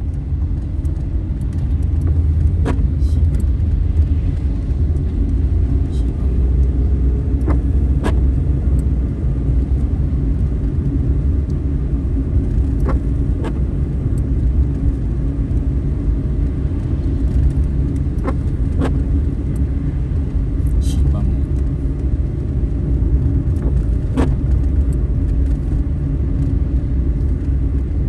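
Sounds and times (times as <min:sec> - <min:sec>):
windscreen wipers clicking: 0:00.0 - 0:11.6, 0:12.2 - 0:28.0
car road and engine rumble: 0:00.0 - 0:28.0.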